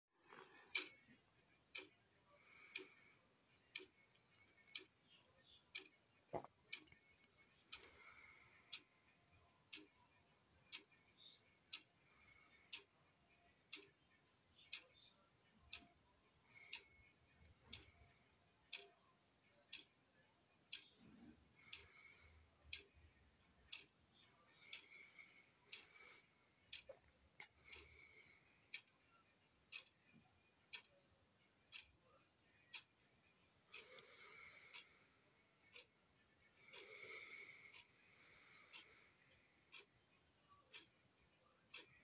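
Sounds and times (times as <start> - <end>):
quiet regular ticking: 0.2 - 42.0.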